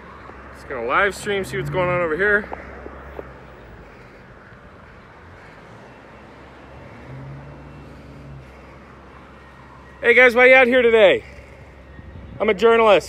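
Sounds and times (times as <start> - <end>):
road traffic rumble: 0.0 - 13.0
vehicle engine hum: 0.0 - 13.0.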